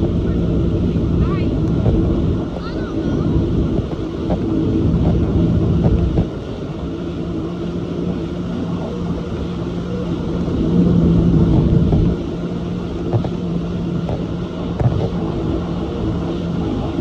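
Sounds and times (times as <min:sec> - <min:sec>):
jet ski engine running: 0:00.0 - 0:17.0
water rushing: 0:00.0 - 0:17.0
wind buffeting microphone: 0:00.0 - 0:17.0.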